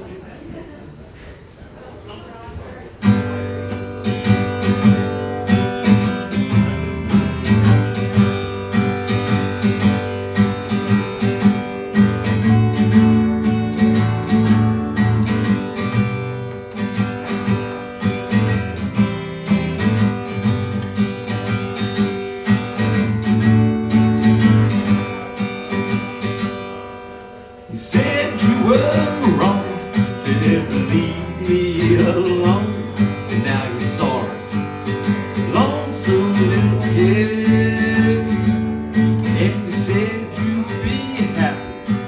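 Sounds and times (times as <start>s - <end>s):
acoustic guitar strumming: 3.0s - 42.0s.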